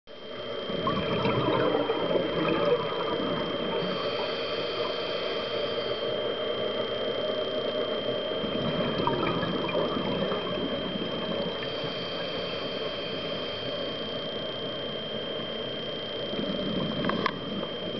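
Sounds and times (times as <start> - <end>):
thin high whine: 0.1 - 17.9
regulator bubbles underwater: 0.2 - 17.9.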